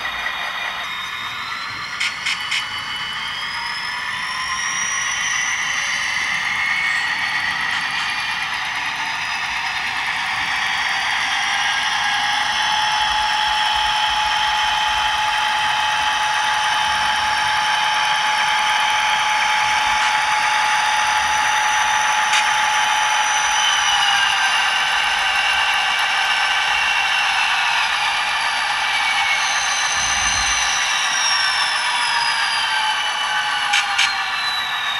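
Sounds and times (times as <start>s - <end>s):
steady whine: 0.0s - 34.9s.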